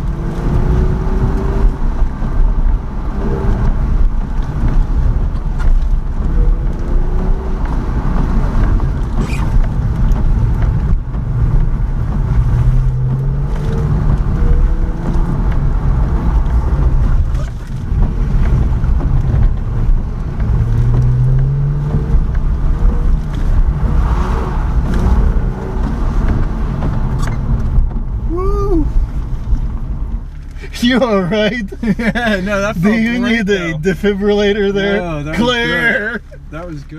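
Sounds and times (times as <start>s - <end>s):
car engine accelerating: 0.0s - 36.9s
road and wind noise: 0.0s - 36.9s.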